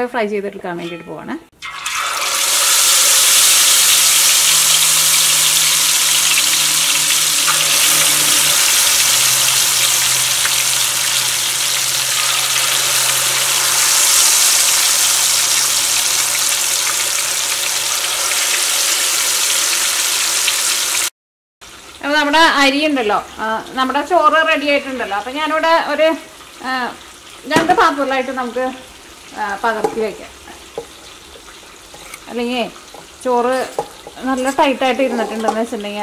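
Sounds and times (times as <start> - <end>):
chicken deep-frying in oil: 1.6 - 36.0.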